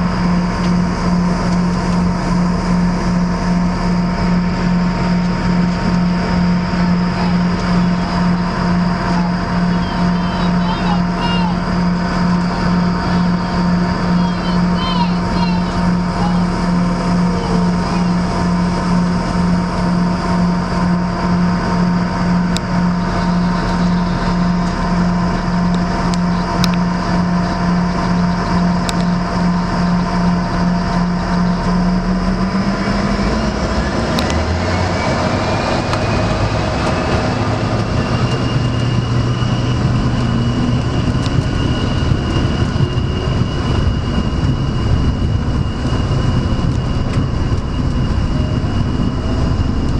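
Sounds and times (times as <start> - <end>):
jet engine hum from cabin: 0.0 - 49.9
jet engine whine rising: 0.0 - 49.9.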